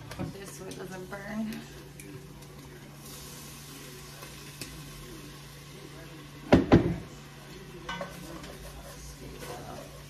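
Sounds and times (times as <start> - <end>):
beef sizzling in a pot: 0.0 - 10.0.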